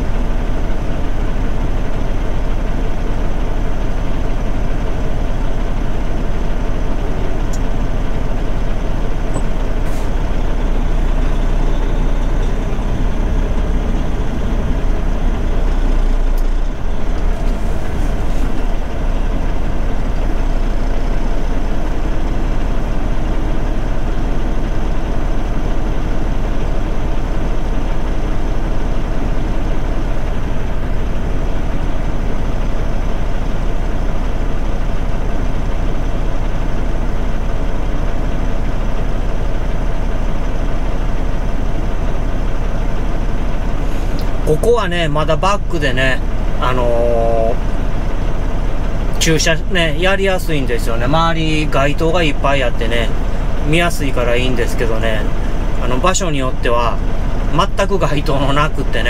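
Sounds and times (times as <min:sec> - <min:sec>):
diesel truck engine rumbling: 0:00.0 - 0:59.0.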